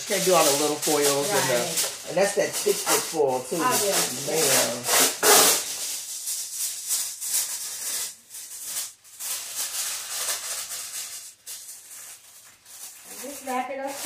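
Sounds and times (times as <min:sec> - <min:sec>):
aluminium foil crinkling: 0:00.0 - 0:14.0.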